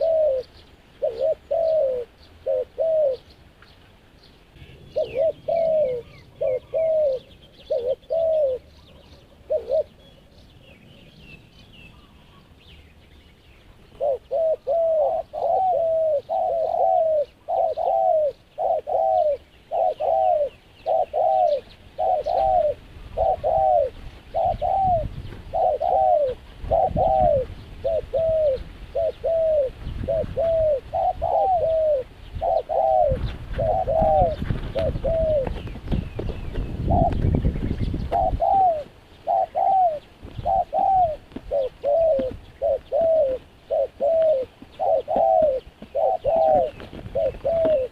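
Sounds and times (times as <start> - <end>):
dove cooing: 0.0 - 3.4, 4.5 - 11.1, 13.7 - 47.9
small birds chirping: 0.0 - 47.9.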